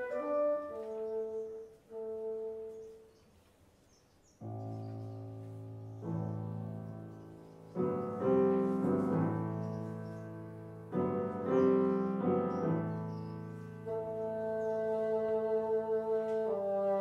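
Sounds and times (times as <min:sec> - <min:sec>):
grand piano chords: 0:00.0 - 0:03.3, 0:04.4 - 0:17.0.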